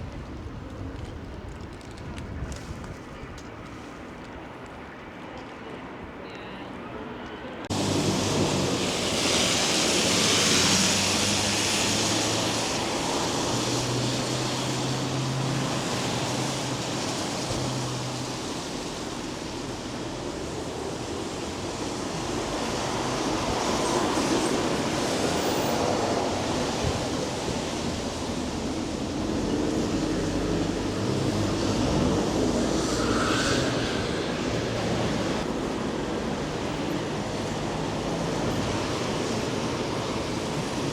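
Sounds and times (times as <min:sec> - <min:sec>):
tyre hiss on wet road: 0:07.7 - 0:40.9.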